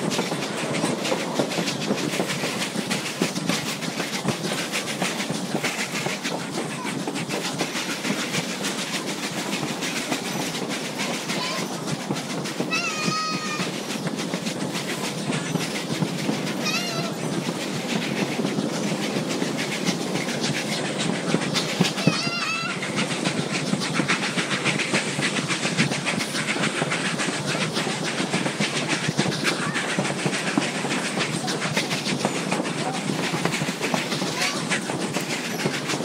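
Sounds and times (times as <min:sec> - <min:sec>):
train cars rumbling and rattling: 0:00.0 - 0:36.0
wheels clicking over rails: 0:00.0 - 0:36.0.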